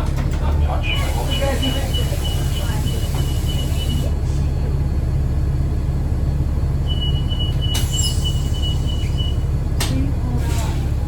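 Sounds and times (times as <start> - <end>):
bus drivetrain rumble: 0.0 - 11.0.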